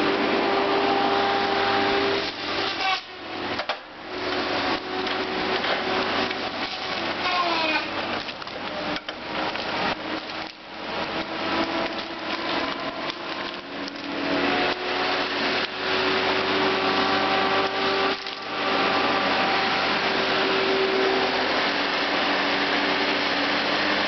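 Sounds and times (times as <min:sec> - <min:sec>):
feller buncher engine whine: 0:00.0 - 0:24.0
saw head cutting through trees: 0:00.0 - 0:24.0.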